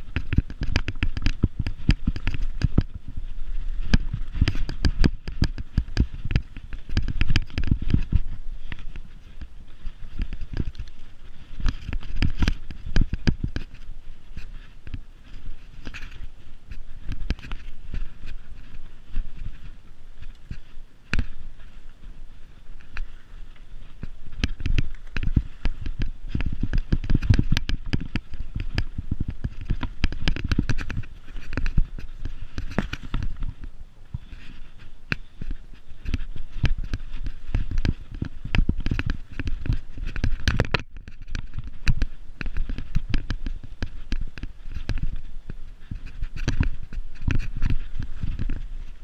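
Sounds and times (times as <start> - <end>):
bike rattling over bumps: 0.0 - 49.0.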